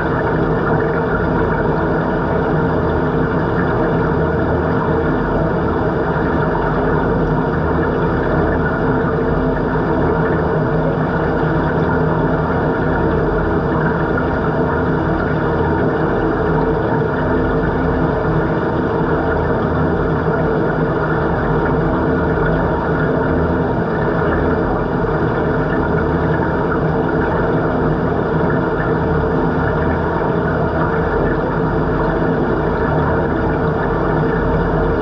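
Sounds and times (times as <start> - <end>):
underwater pool pump hum: 0.0 - 35.0.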